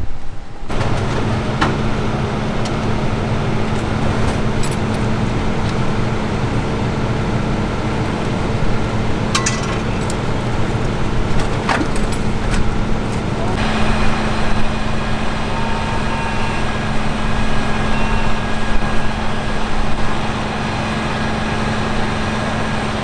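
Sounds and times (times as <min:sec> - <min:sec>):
fire engine idling: 0:00.7 - 0:23.0.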